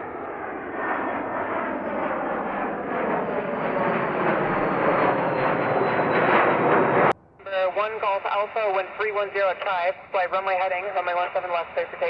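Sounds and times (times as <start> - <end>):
airplane engine noise: 0.0 - 12.0.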